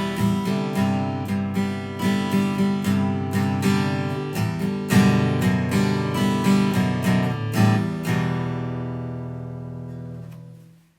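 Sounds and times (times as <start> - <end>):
strummed acoustic guitar: 0.0 - 10.9.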